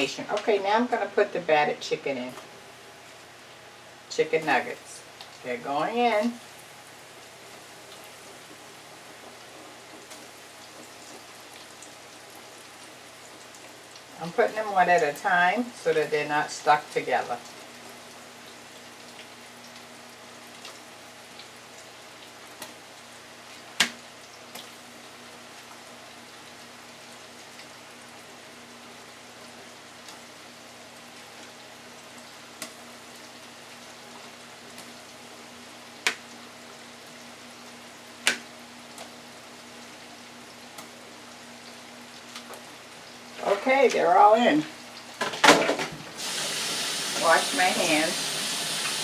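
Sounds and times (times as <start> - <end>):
food sizzling in deep fryer: 0.0 - 49.0.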